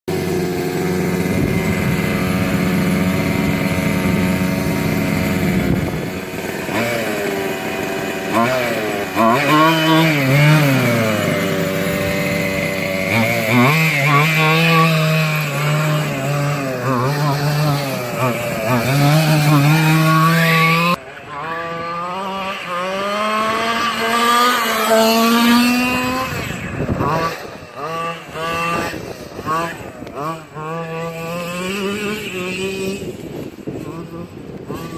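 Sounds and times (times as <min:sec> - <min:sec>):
small two-stroke engine running: 0:00.1 - 0:34.9.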